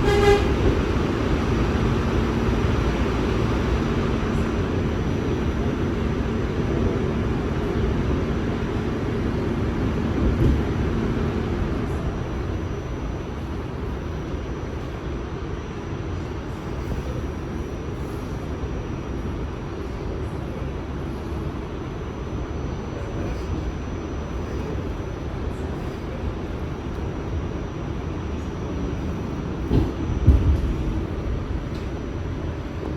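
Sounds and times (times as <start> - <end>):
train wheels rumbling on rail: 0.0 - 22.1, 23.0 - 32.9.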